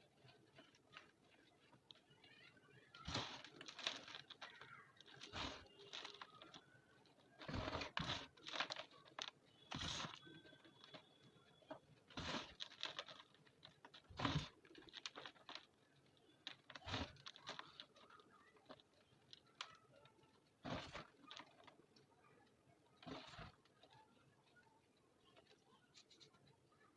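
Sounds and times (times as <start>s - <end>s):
chalk crunching and crumbling: 0.0s - 22.0s, 23.0s - 24.6s.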